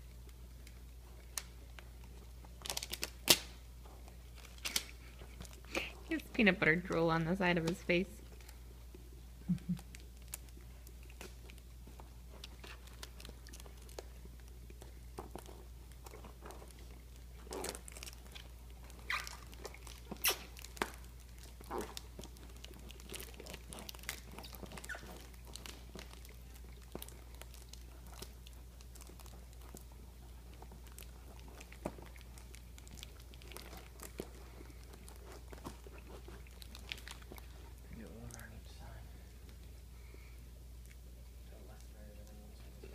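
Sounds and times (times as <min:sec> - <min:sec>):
dog licking and chewing: 0:00.0 - 0:06.4, 0:08.2 - 0:39.9
faint low hum: 0:00.0 - 0:42.9.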